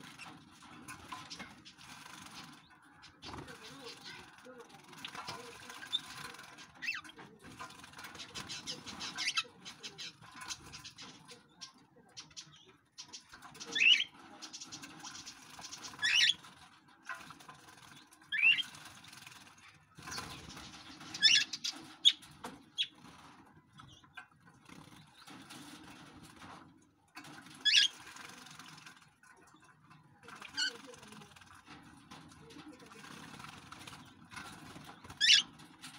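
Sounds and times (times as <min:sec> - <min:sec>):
birds fluttering wings: 0:00.0 - 0:35.9.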